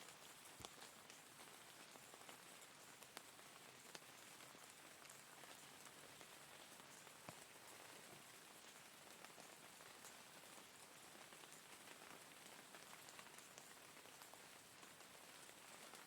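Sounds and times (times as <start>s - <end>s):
rain falling: 0.0s - 16.0s
raindrop ticks: 0.4s - 16.0s.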